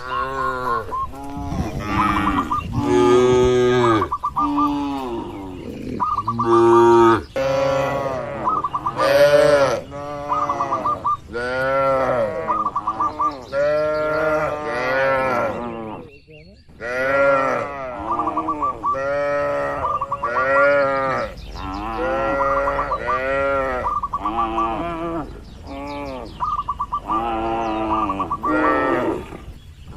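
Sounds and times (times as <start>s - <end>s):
cattle mooing: 0.0s - 16.1s, 16.8s - 26.4s, 27.0s - 29.5s.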